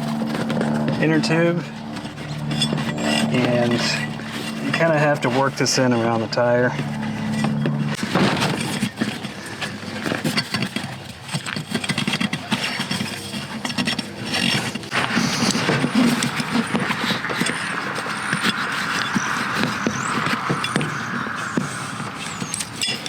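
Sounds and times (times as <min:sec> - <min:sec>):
rubber rubbing and scraping: 0:00.0 - 0:23.0.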